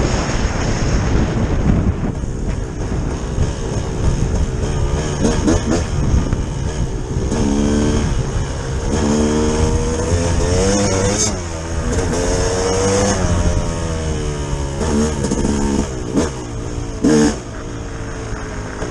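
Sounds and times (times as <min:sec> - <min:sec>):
vehicle engine under load: 0:00.0 - 0:18.9.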